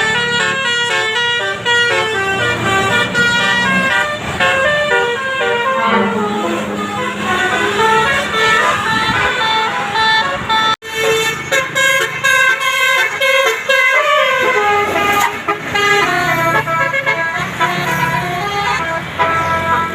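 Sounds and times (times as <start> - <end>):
musical bus horn playing a tune: 0.0 - 19.9.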